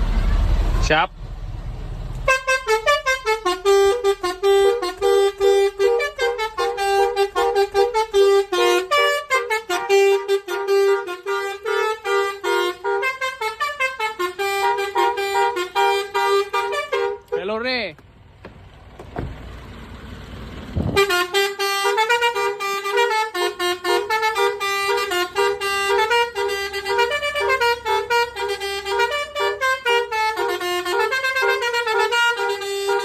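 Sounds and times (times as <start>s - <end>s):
multi-tone horn melody: 2.2s - 17.6s, 20.9s - 33.0s.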